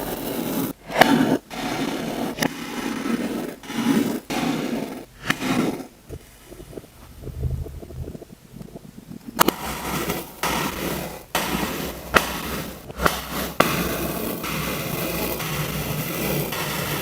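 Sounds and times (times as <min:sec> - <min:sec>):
kinetic sand crumbling and rubbing: 0:00.0 - 0:08.3, 0:09.0 - 0:17.0.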